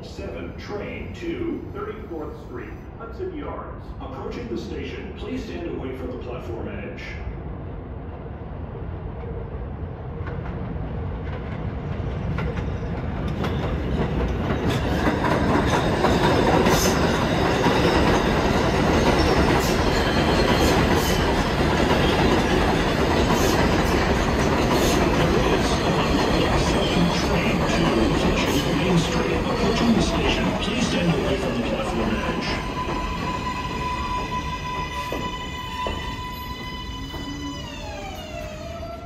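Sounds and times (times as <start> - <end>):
subway train wheels clattering: 7.0 - 39.0.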